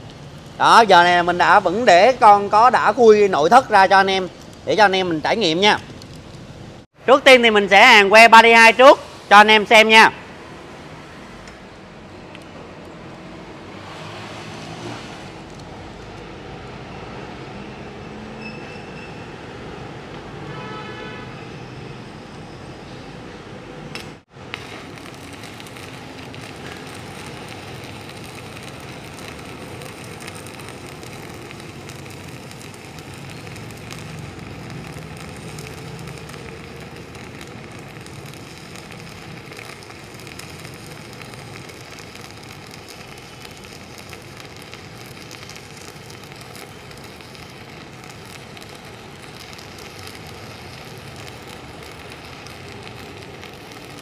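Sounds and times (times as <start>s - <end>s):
welding arc burning: 0.0s - 6.9s, 10.6s - 18.4s, 23.9s - 54.0s.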